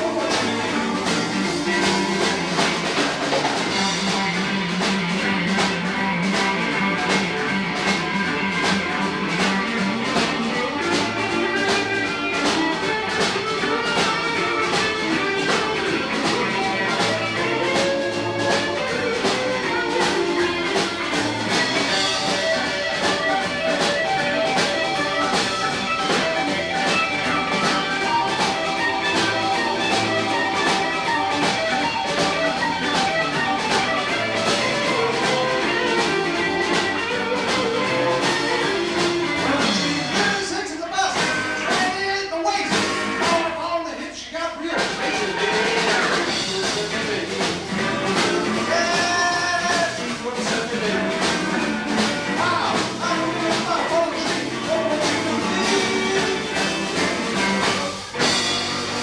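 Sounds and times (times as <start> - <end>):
electric guitars: 0.0 - 59.0
keyboard: 0.0 - 59.0
steady drum beat: 0.0 - 59.0.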